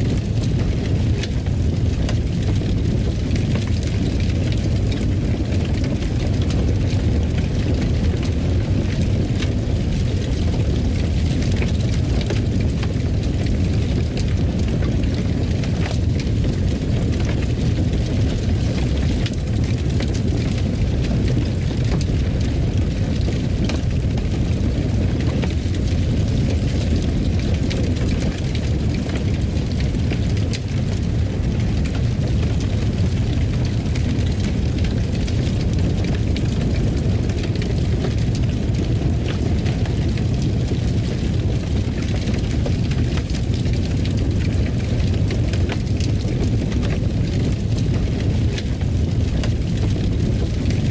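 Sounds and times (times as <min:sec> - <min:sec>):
fire crackling and popping: 0:00.0 - 0:50.9
low fire rumble: 0:00.0 - 0:50.9.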